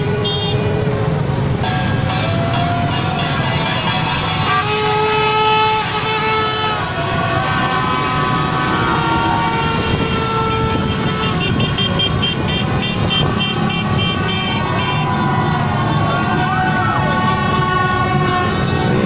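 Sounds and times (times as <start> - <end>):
rumble of engines: 0.0 - 19.0
vehicle horns honking: 0.0 - 19.0.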